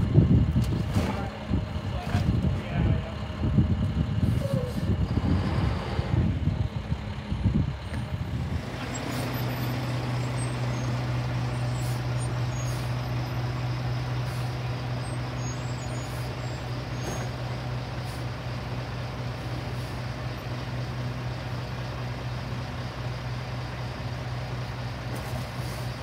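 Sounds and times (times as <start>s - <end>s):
garbage truck diesel engine: 0.0s - 26.0s.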